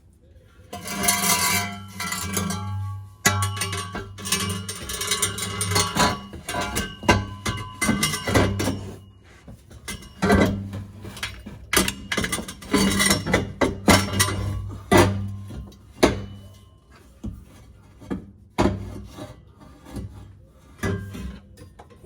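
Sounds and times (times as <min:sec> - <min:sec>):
scraping and knocking: 0:00.7 - 0:21.5.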